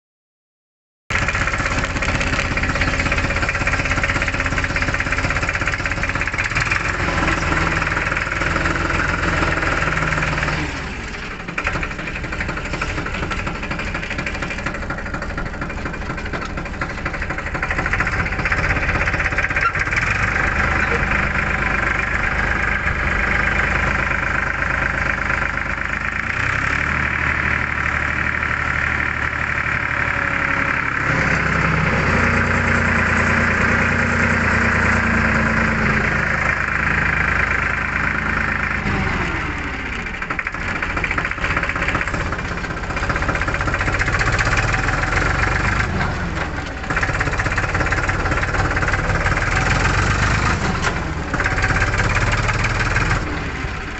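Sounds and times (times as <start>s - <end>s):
tractor diesel engine running: 1.1s - 53.9s.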